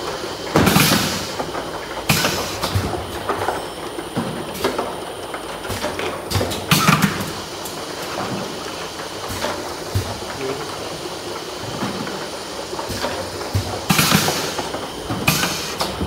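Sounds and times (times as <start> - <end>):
bottling machine running: 0.0 - 16.0.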